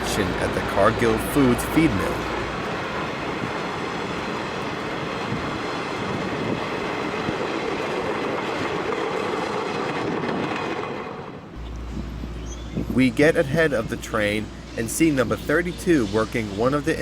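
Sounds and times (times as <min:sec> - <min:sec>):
train wheels rolling on rails: 0:00.0 - 0:17.0.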